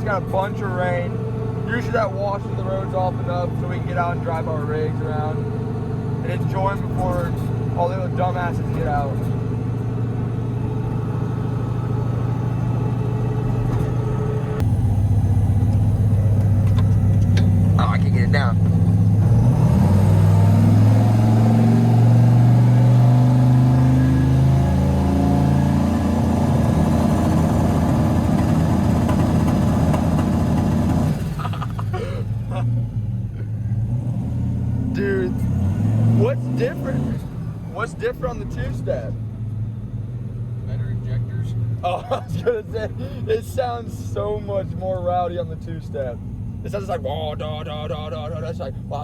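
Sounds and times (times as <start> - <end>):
truck engine running: 0.0 - 49.0.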